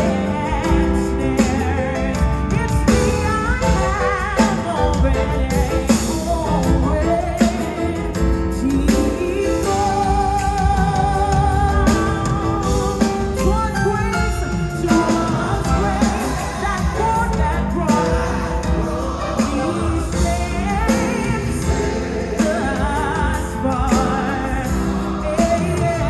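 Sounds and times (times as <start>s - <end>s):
gospel choir singing: 0.0s - 26.0s
live band with steady beat: 0.0s - 26.0s.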